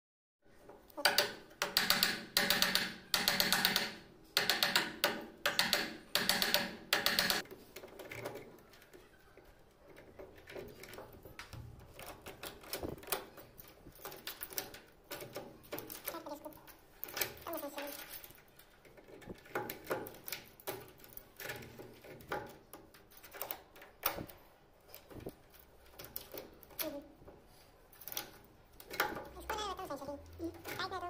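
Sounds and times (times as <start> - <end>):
metal lock knocking and rubbing: 1.0 - 8.6, 9.9 - 27.2, 27.9 - 31.0.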